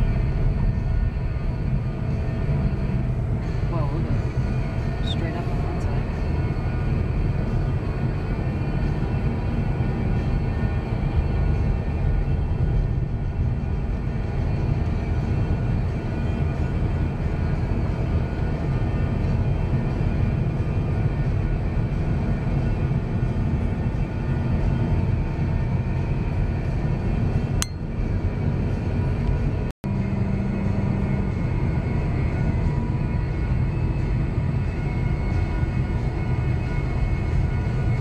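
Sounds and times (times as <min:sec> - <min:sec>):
car road and engine noise: 0:00.0 - 0:38.0.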